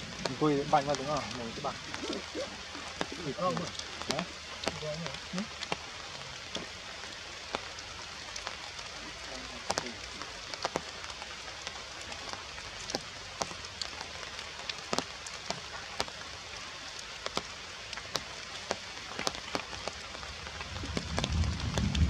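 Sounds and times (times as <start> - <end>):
rain falling on leaves: 0.0 - 22.0.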